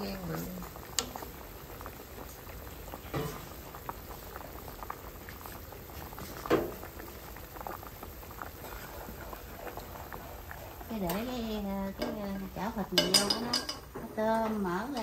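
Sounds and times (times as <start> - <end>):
broth boiling in a pot: 0.0 - 15.0.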